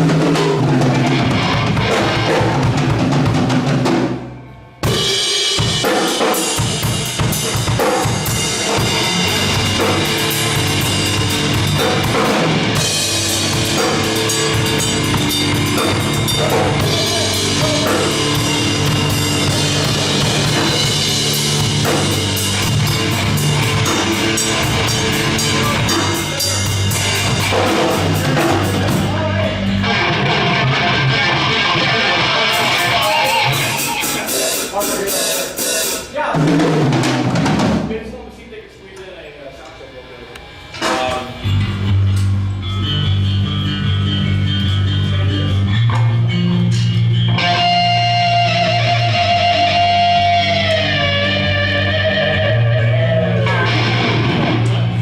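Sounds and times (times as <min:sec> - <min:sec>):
band playing loud rock music: 0:00.0 - 0:38.0, 0:40.5 - 0:55.0.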